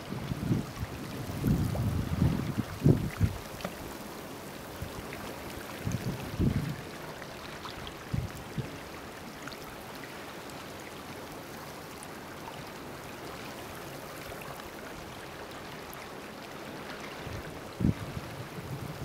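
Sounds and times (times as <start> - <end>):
gentle water wash: 0.0 - 19.0
water drips and trickles: 0.0 - 19.0.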